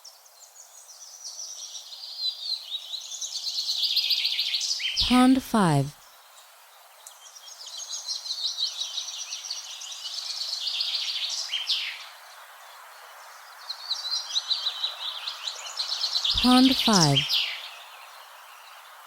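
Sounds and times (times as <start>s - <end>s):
small birds twittering: 0.0s - 5.0s, 6.0s - 16.3s, 17.2s - 19.0s.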